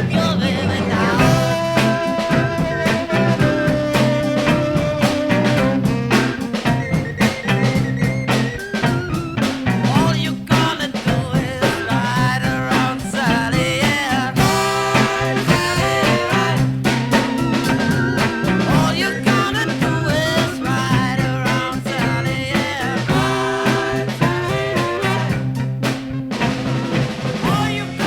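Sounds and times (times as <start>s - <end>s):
bass guitar: 0.0s - 28.0s
drum kit: 0.0s - 28.0s
electric guitar: 0.0s - 28.0s
organ: 0.0s - 28.0s
saxophone: 0.0s - 28.0s.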